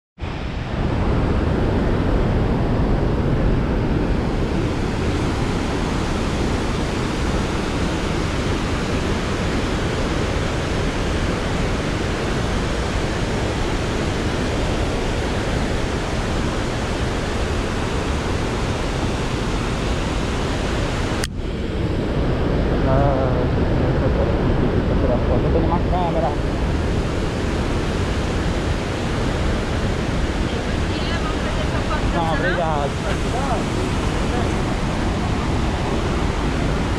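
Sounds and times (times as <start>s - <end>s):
waterfall rushing: 0.2s - 22.0s, 25.6s - 36.9s.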